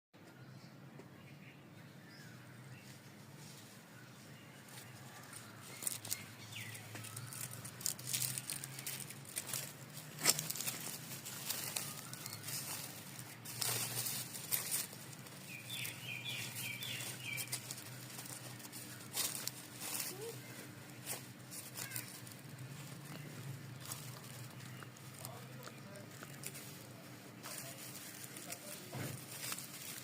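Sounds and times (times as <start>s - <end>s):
bird chirping: 0.2s - 26.4s
rustling and crinkling: 2.8s - 30.0s.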